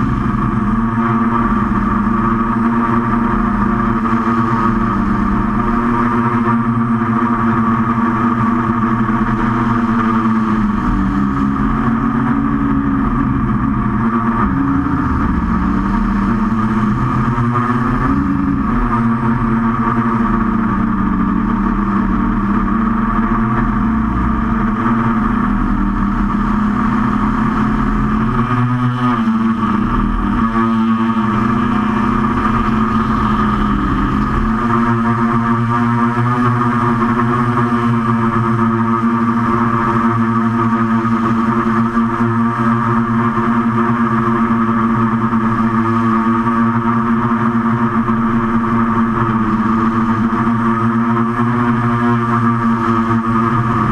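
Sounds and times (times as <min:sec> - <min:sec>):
quadcopter motors buzzing: 0:00.0 - 0:53.9.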